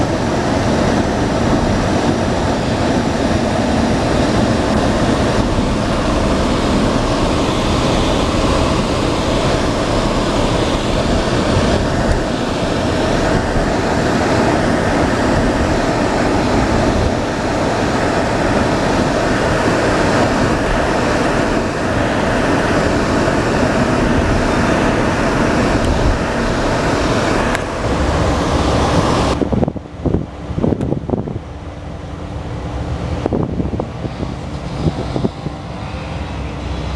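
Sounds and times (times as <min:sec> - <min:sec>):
vehicle engine and tyre rush: 0:00.0 - 0:36.9.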